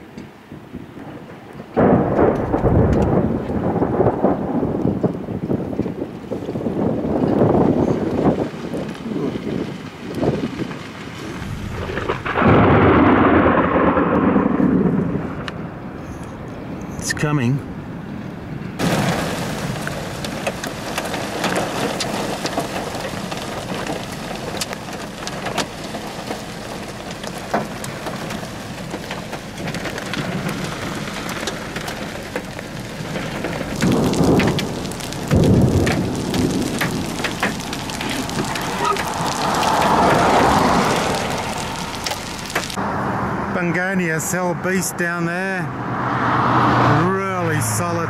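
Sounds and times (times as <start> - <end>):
heavy rain pouring down: 0.0 - 16.2, 18.8 - 44.8, 46.4 - 48.0
raindrops striking close: 1.1 - 15.6, 18.8 - 42.8.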